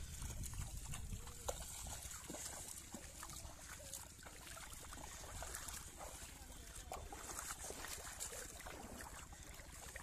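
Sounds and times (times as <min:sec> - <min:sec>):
feet splashing in shallow water: 0:00.0 - 0:10.0
low steady rumble: 0:00.0 - 0:10.0.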